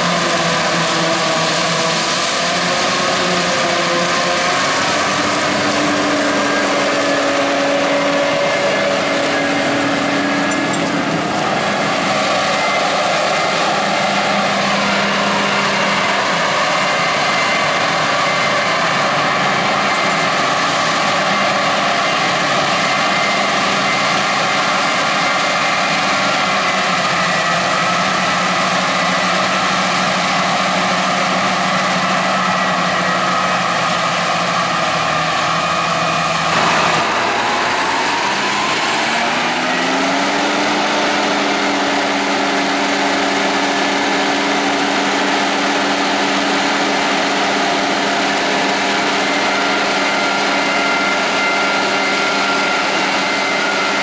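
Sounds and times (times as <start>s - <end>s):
forage harvester engine running: 0.0s - 54.0s
high-pitched chopping gear whine: 0.0s - 54.0s.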